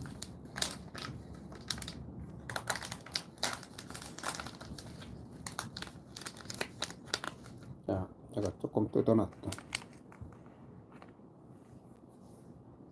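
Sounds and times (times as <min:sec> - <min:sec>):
plastic wrapper crinkling: 0:00.0 - 0:07.8, 0:08.4 - 0:11.2.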